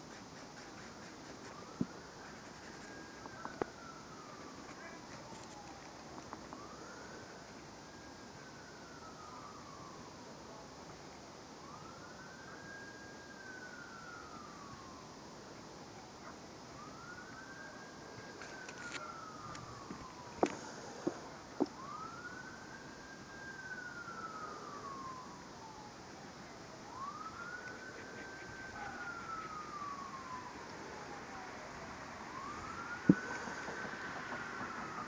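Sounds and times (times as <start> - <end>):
siren wailing: 1.3 - 10.6, 11.6 - 15.3, 16.7 - 35.0.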